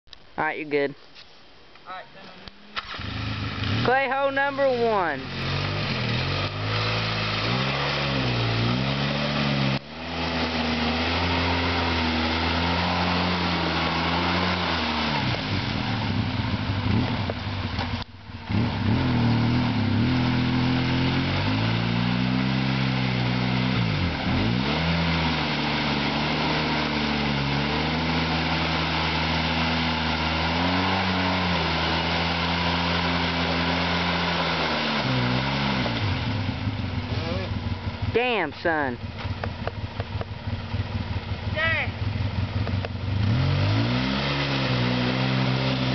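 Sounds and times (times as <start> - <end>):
atv engine revving: 2.7 - 45.9.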